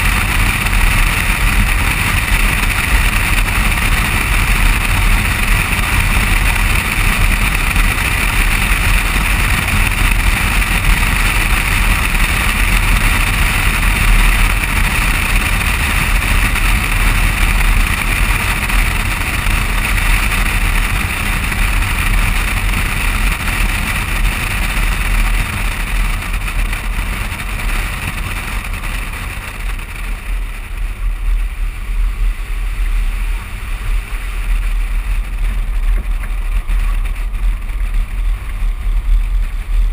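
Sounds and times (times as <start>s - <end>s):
steady low rumble: 0.0s - 39.9s
tyre and road noise: 0.0s - 39.9s
wind rushing over camera: 0.0s - 39.9s.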